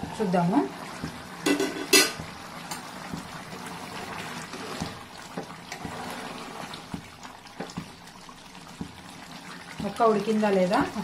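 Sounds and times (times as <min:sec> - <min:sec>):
curry bubbling in a pot: 0:00.0 - 0:11.0
ladle stirring: 0:00.0 - 0:11.0.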